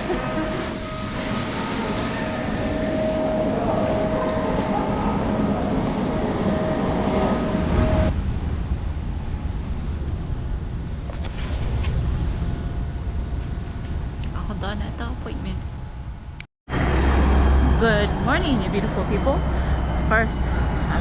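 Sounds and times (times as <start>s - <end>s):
high steady whine: 0.0s - 21.0s
rail car rumbling: 0.0s - 21.0s.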